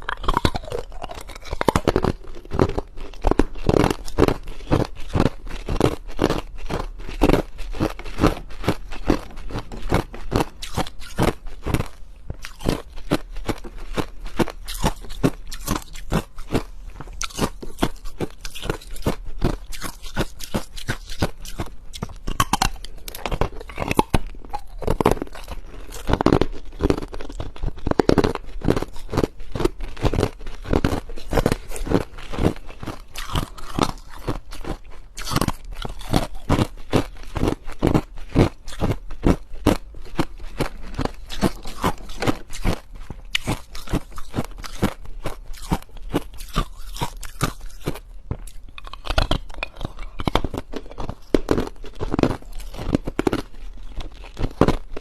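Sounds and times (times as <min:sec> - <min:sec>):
chewing ice: 0:00.0 - 0:55.0.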